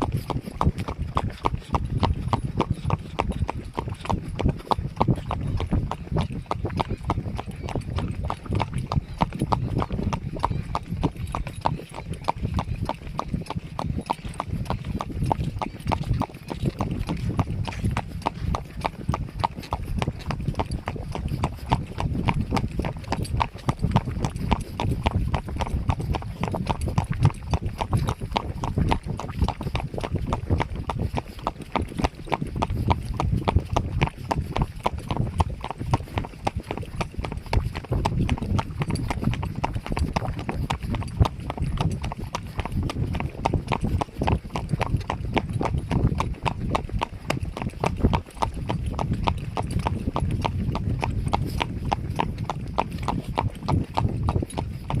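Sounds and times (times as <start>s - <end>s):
horse hooves clip-clopping: 0.0s - 55.0s.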